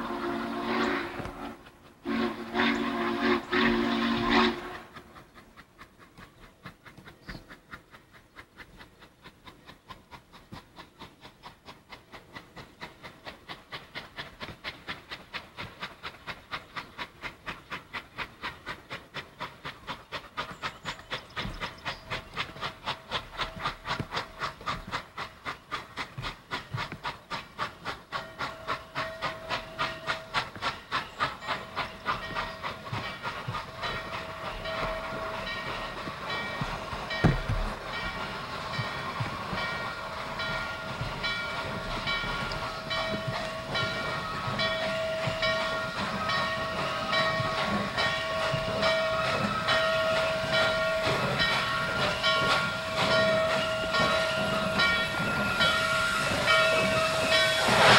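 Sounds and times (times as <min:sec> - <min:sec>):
steam locomotive exhaust chuffs: 0:00.0 - 0:57.9.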